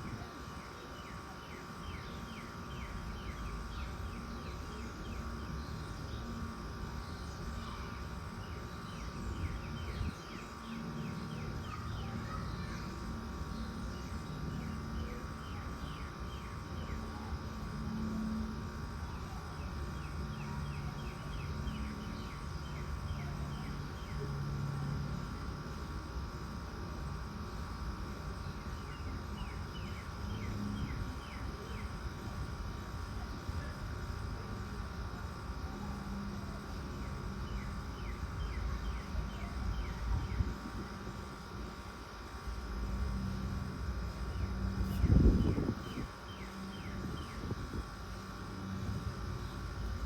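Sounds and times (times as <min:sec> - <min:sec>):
air conditioner units humming: 0:00.0 - 0:50.0.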